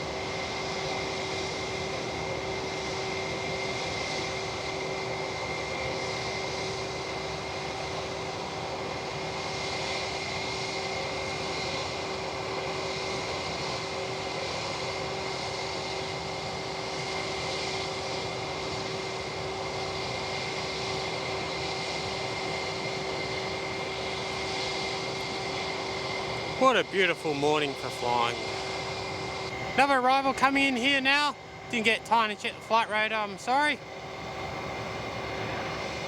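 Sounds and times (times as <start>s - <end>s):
jet engine whine: 0.0s - 36.0s.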